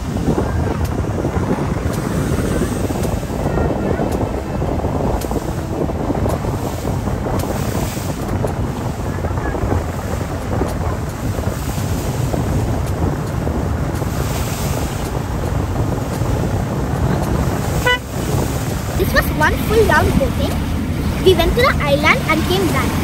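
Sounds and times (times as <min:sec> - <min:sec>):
motorboat engine drone: 0:00.0 - 0:23.0
water rushing past hull: 0:00.0 - 0:23.0
wind buffeting microphone: 0:00.0 - 0:23.0.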